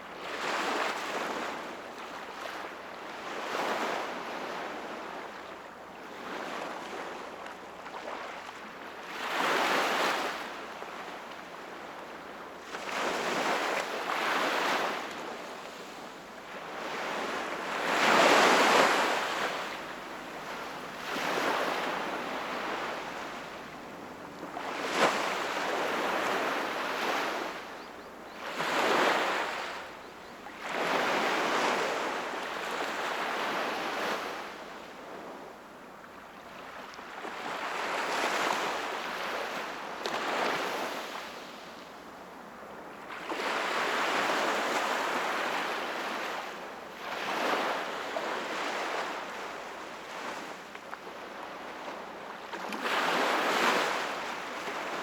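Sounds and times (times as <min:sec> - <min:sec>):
sea waves breaking on shore: 0:06.1 - 0:27.8, 0:28.4 - 0:35.5, 0:36.4 - 0:41.9, 0:42.6 - 0:55.0.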